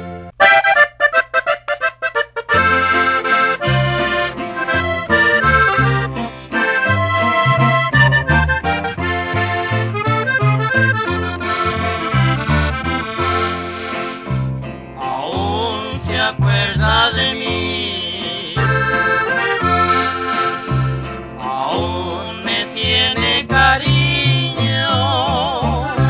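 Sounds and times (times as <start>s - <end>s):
accordion playing: 0.0s - 15.0s, 16.8s - 26.0s
bass line: 0.0s - 26.0s.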